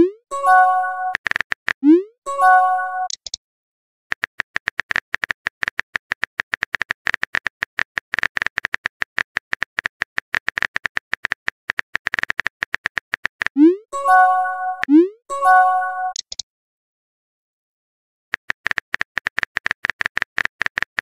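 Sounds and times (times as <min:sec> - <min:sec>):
keyboard typing ticks: 0:00.4 - 0:03.4, 0:04.1 - 0:15.0, 0:15.7 - 0:16.4, 0:18.3 - 0:21.0.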